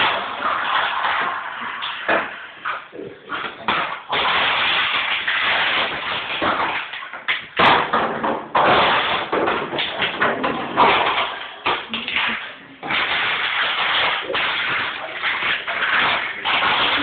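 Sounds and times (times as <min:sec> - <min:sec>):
dog chewing plastic bottle: 0:00.0 - 0:17.0.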